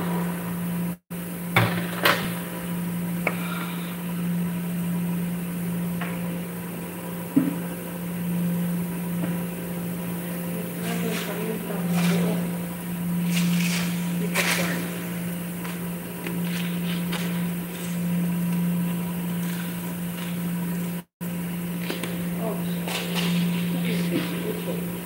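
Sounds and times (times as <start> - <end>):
kitchen machine hum: 0.0 - 25.0.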